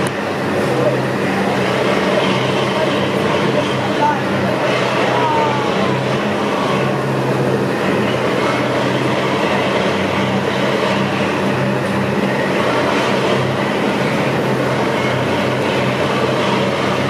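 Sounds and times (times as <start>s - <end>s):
churning water: 0.0s - 17.0s
diesel boat engines: 0.0s - 17.0s
heavy rushing noise: 0.0s - 17.0s.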